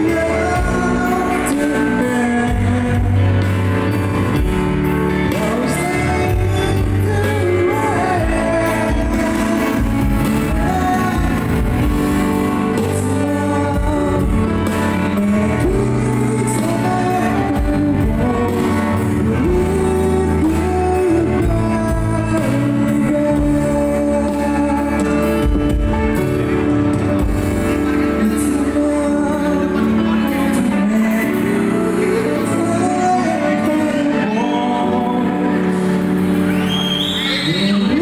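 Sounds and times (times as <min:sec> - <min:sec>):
man singing into a microphone: 0:00.0 - 0:26.7, 0:27.7 - 0:38.0
guitar and band accompaniment: 0:00.0 - 0:38.0.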